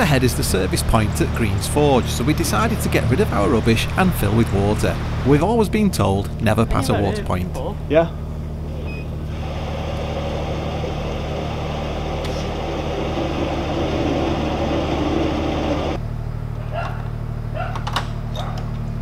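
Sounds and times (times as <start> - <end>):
boat drive humming: 0.0 - 16.0.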